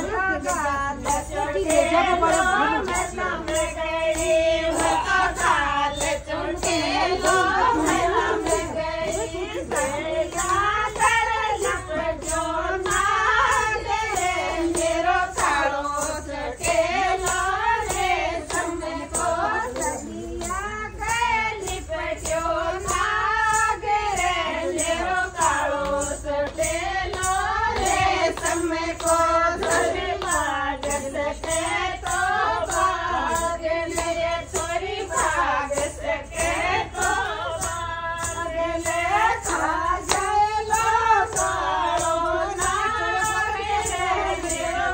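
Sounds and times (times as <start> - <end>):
hand clapping: 0.0 - 16.2, 25.1 - 44.9
women singing folk song: 0.0 - 44.9.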